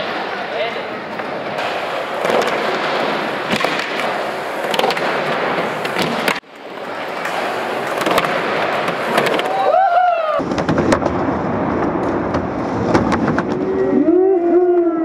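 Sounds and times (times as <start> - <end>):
skateboard wheels rolling: 0.0 - 15.0
skateboard clacks: 1.1 - 13.7.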